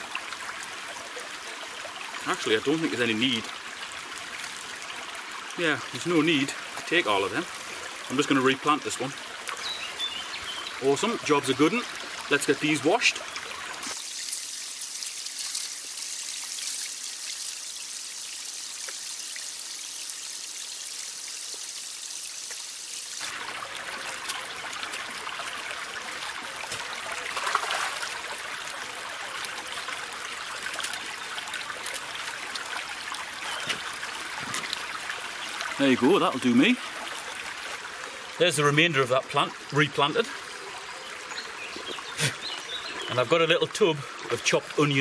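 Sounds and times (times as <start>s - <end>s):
stream babbling over stones: 0.0s - 45.0s.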